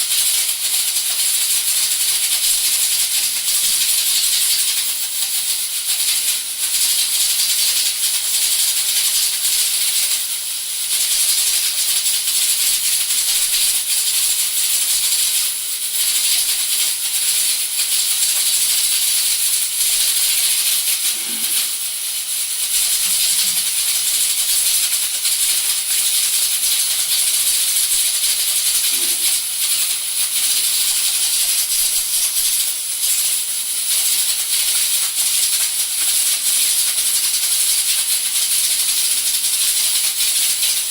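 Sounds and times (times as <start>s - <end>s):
pressure cookers hissing steam: 0.0s - 40.9s.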